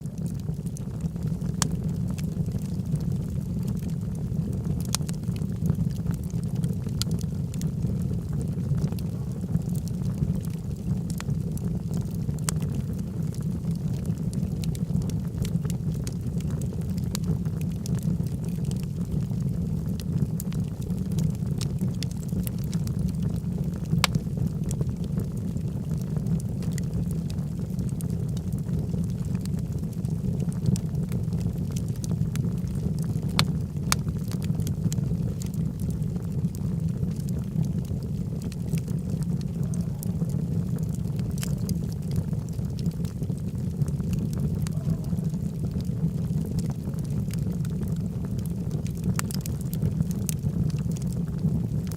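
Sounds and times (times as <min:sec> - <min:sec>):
low rumble of flames: 0:00.0 - 0:51.9
wood crackling and popping: 0:00.0 - 0:51.9.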